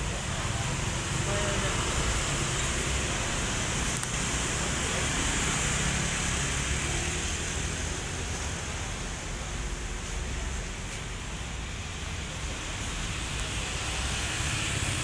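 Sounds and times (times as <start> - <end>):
motorbikes and cars passing: 0.0 - 15.0.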